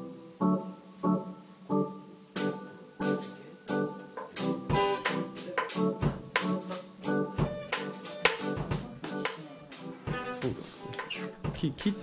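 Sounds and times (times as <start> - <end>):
drum kit: 0.0 - 12.0.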